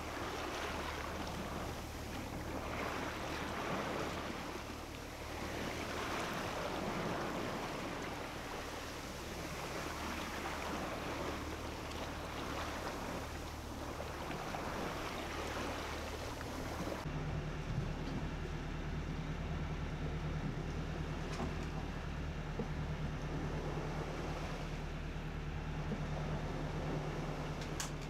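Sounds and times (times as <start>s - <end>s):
boat engine hum: 0.0s - 28.0s
water rushing along boat hull: 0.0s - 28.0s.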